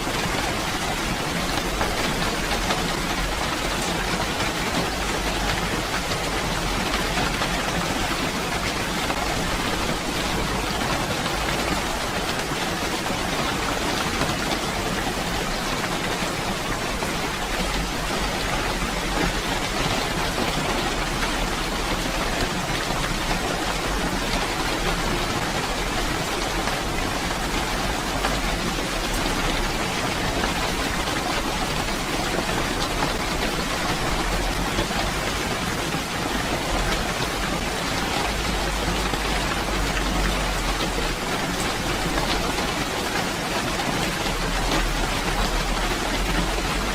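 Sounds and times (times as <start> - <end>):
rain pattering on surfaces: 0.0 - 46.9.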